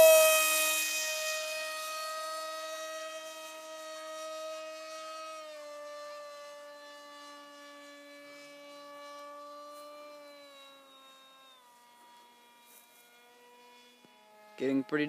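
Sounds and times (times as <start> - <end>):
model jet motor whine: 0.0 - 15.0.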